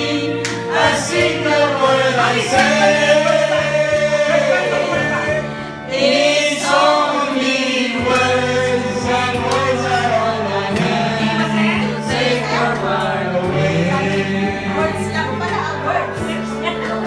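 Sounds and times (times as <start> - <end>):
backing music: 0.0 - 17.0.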